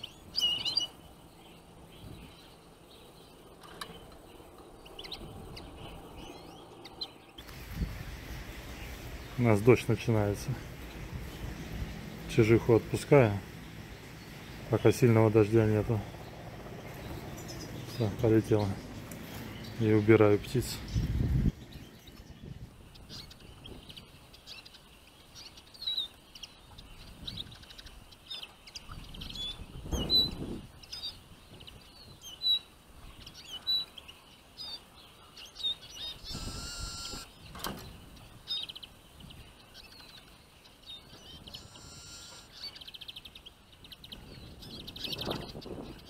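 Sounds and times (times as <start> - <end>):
finches chirping and twittering: 0.0 - 46.0.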